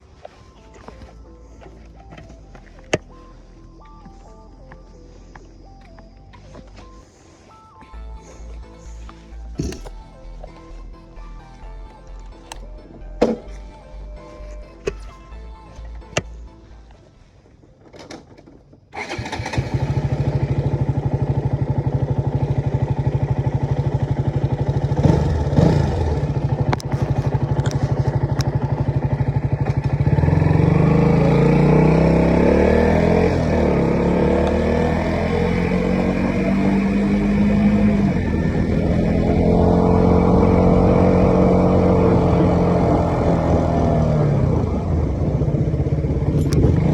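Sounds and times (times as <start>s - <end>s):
motorcycle engine idling and revving: 0.0s - 7.0s, 8.4s - 16.5s, 18.1s - 46.9s.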